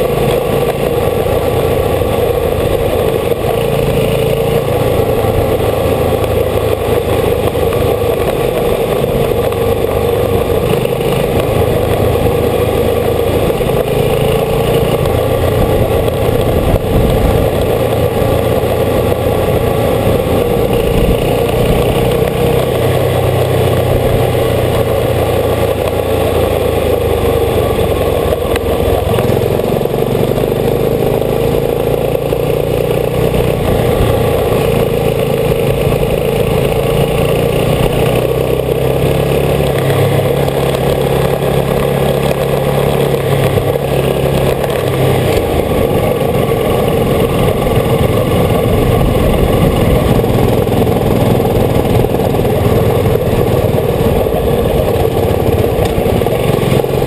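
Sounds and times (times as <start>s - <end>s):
motorcycle engine running: 0.0s - 57.0s
steady rushing noise: 0.0s - 57.0s.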